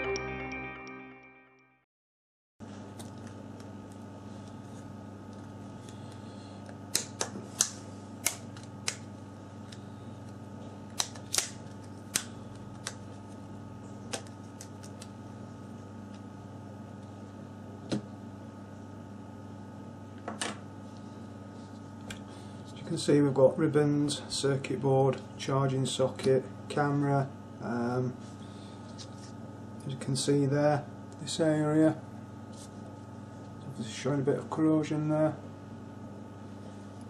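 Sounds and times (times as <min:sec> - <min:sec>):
electrical hum: 0:02.6 - 0:37.0.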